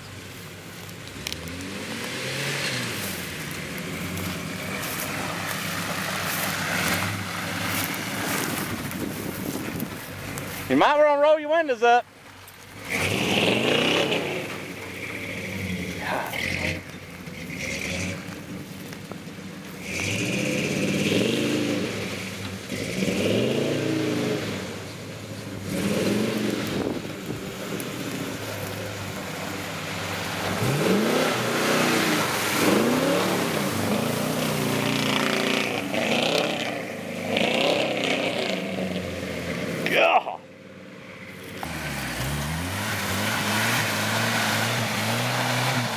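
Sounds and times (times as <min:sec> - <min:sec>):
off-road engine revving: 0:00.0 - 0:45.9.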